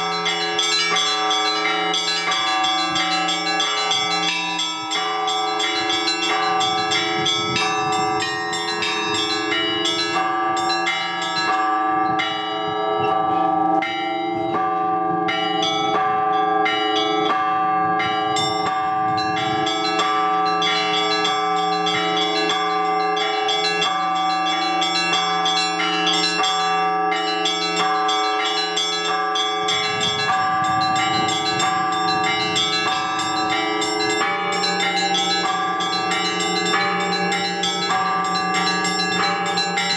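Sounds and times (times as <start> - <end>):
deep church bells humming: 0.0 - 39.9
small church bells struck quickly: 0.0 - 39.9.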